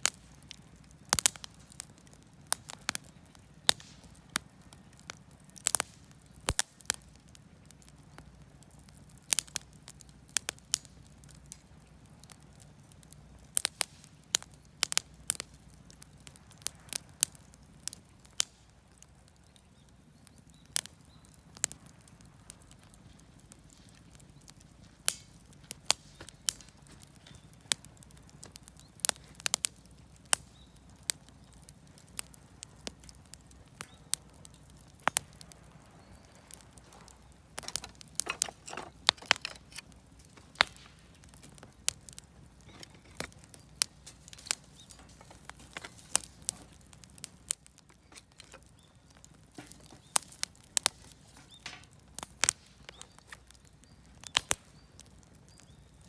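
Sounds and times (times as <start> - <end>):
campfire crackling and popping: 0.0 - 56.0
faint hiss of burning: 0.0 - 56.0.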